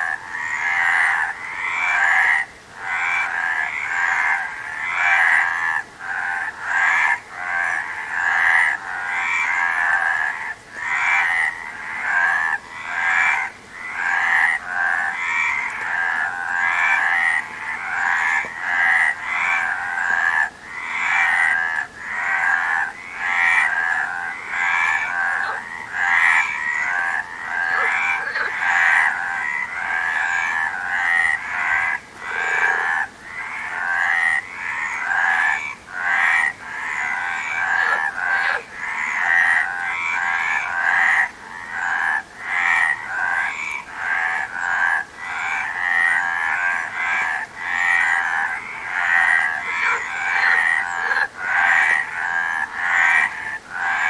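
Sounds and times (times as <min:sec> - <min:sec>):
chorus of frogs croaking: 0:00.0 - 0:54.0.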